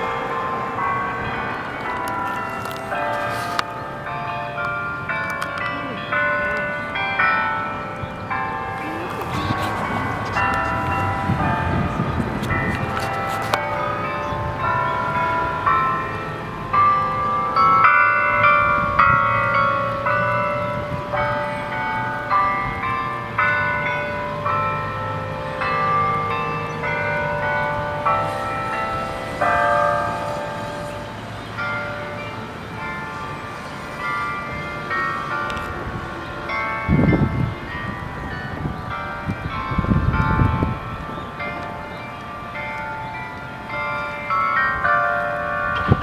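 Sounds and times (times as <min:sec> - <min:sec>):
church bells playing a slow tune: 0:00.0 - 0:46.0.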